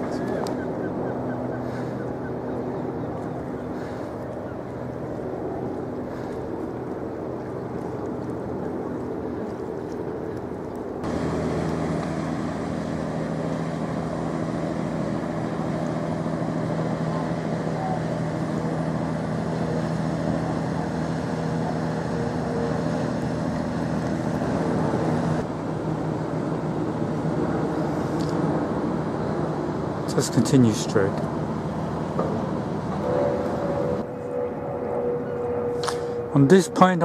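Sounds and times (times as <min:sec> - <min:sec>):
boat diesel engine droning: 0:00.0 - 0:37.0.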